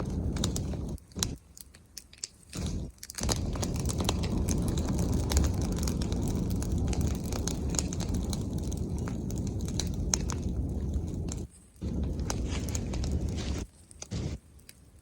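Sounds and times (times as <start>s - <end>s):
bonfire crackling: 0.0s - 15.0s
low fire rumble: 0.0s - 15.0s.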